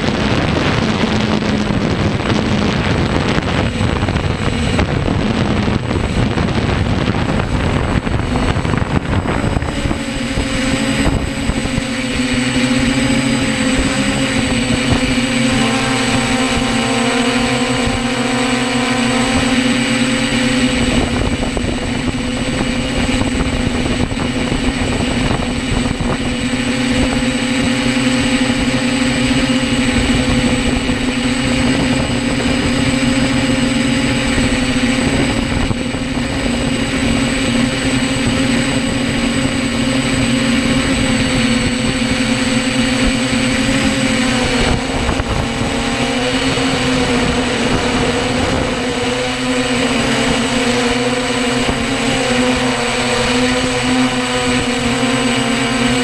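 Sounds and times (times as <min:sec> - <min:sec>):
drone motors and propellers droning: 0:00.0 - 0:56.0
wind buffeting microphone: 0:00.0 - 0:56.0.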